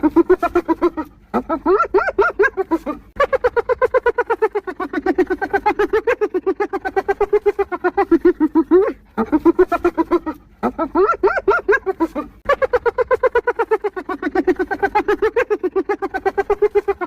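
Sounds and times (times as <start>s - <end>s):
hyena giggling: 0.0s - 17.0s.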